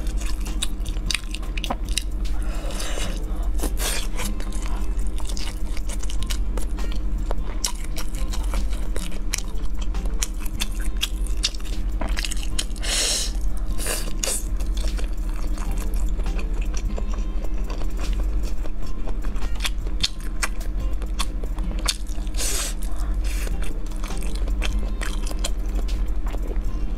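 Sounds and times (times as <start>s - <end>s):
wet chewing: 0.0s - 26.8s.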